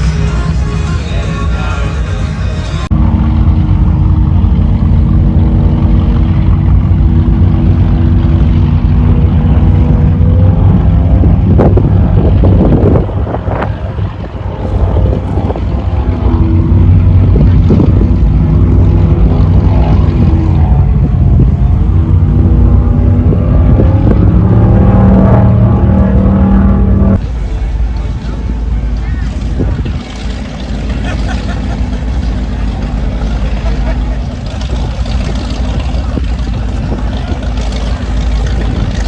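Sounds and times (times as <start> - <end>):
powerboat engines rumbling: 0.0 - 39.0.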